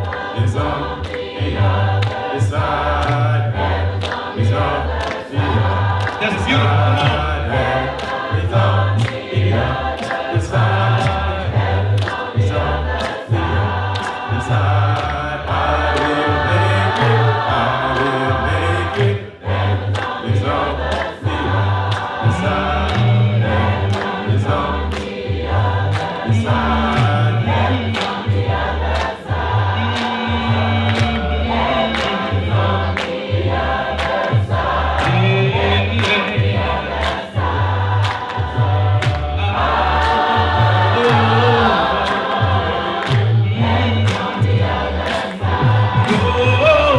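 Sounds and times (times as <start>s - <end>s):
bass line: 0.0s - 46.9s
gospel choir singing: 0.0s - 46.9s
steady beat: 0.0s - 46.9s.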